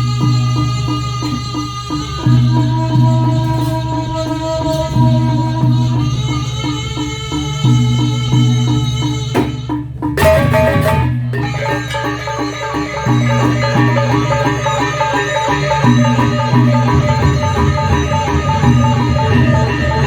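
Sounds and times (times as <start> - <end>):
gong and drum ensemble music: 0.0 - 20.0.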